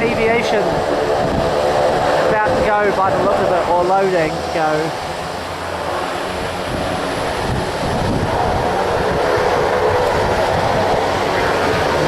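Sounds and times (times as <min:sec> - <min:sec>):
airliner engines rumbling: 0:00.0 - 0:12.0
whining hum: 0:00.0 - 0:12.0.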